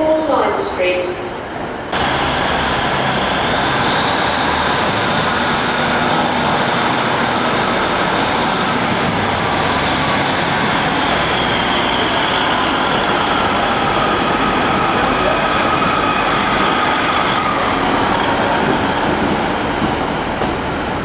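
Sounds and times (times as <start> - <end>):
train running along track: 0.0 - 21.0.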